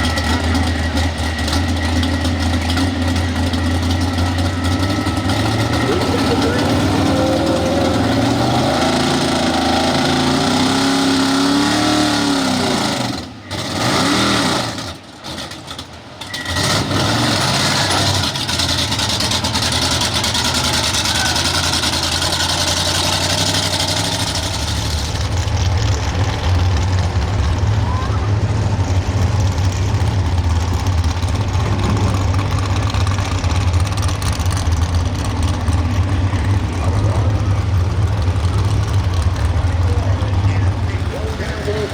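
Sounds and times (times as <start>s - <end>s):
truck engine running hard: 0.0s - 41.9s.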